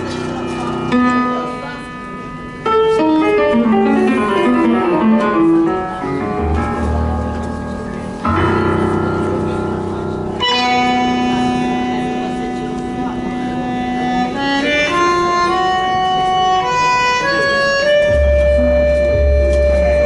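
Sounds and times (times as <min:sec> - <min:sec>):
tango piano music: 0:00.0 - 0:20.0
low bass notes: 0:03.2 - 0:16.6, 0:17.2 - 0:20.0.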